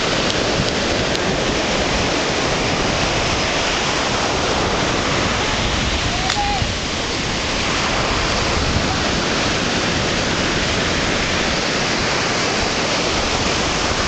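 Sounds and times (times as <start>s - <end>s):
ocean surf rushing: 0.0s - 14.0s
wind: 0.0s - 14.0s.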